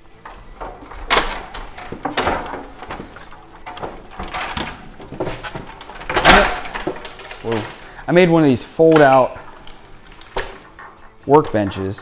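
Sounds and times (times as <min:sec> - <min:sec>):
loud wooden clatter: 0:00.0 - 0:12.0
wooden knocks and scraping: 0:00.0 - 0:12.0.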